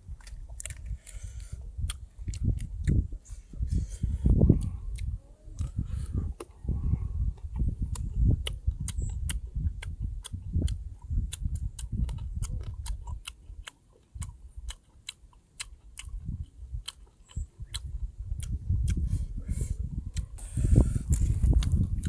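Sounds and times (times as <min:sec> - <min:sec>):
person chewing food: 0:00.0 - 0:06.6, 0:07.3 - 0:22.0.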